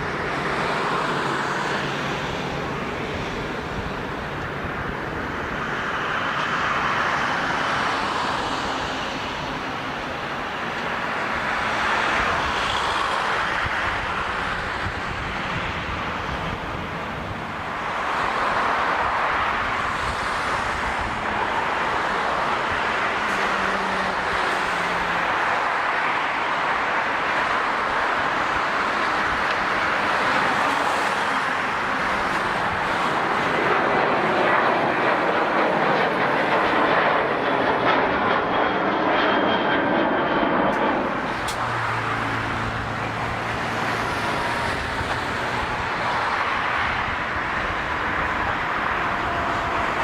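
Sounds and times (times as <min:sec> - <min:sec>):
jet engine roar: 0:00.0 - 0:50.0.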